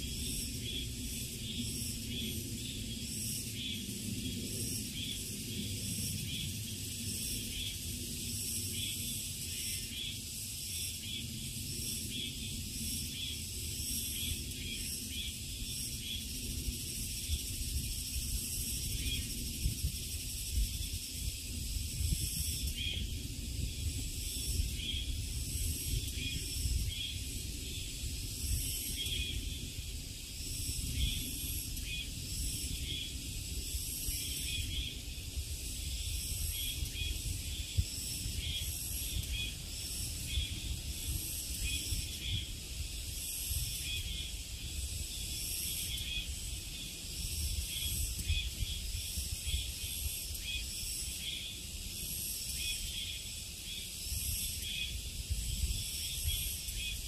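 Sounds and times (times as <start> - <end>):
insects shrilling: 0.0 - 57.0.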